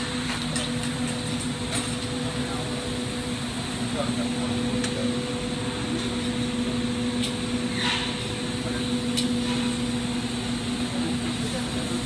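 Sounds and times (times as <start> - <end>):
workshop equipment humming: 0.0 - 12.0.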